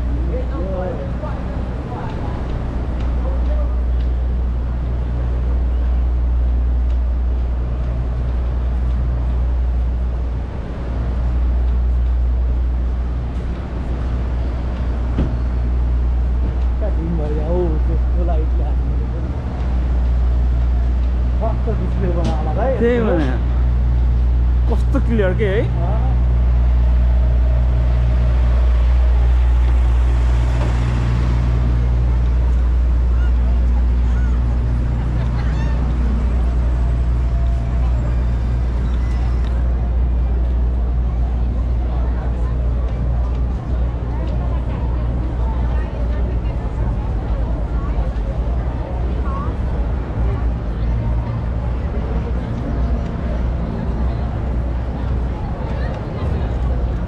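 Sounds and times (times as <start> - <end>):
street noise: 0.0 - 57.0
traffic rumble: 0.0 - 57.0.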